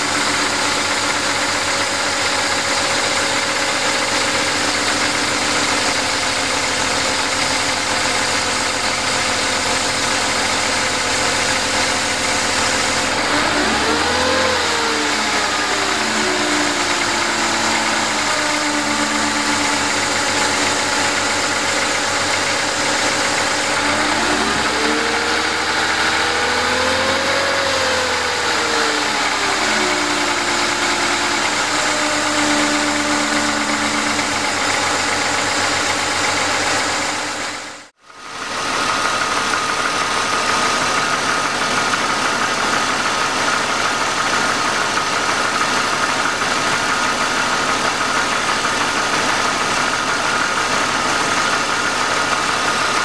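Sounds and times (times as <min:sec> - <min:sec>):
car engine idling: 0:00.0 - 0:53.0
engine knocking: 0:00.0 - 0:53.0
engine rattle: 0:00.0 - 0:53.0.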